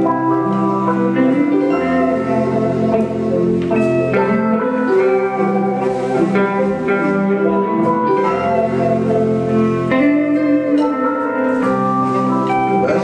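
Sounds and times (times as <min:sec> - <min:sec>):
guitar melody: 0:00.0 - 0:13.0
live band playing: 0:00.0 - 0:13.0.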